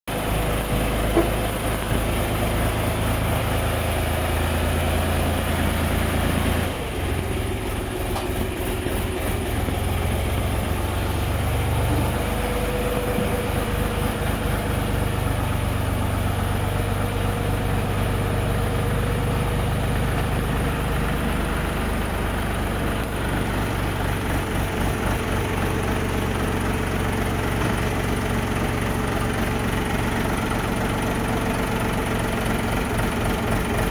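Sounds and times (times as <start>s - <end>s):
small tractor engine idling: 0.1s - 33.9s.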